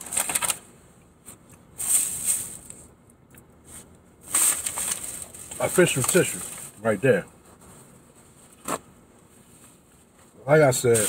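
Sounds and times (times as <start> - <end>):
rustling and handling noise: 0.0 - 11.0.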